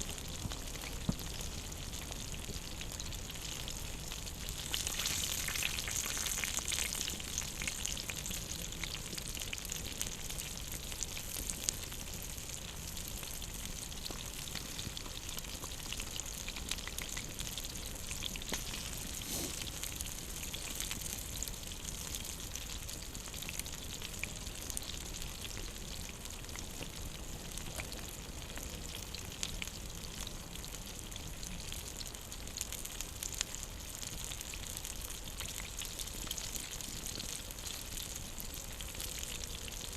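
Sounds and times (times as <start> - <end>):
food sizzling over campfire: 0.0 - 39.9.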